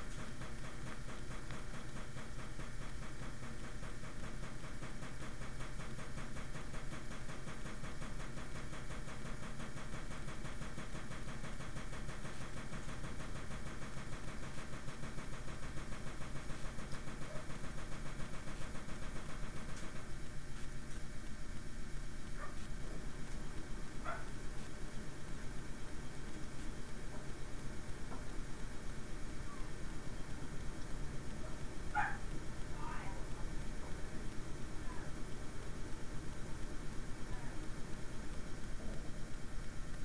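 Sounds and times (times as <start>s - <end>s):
machine hum with rhythmic pulse: 0.0s - 40.0s.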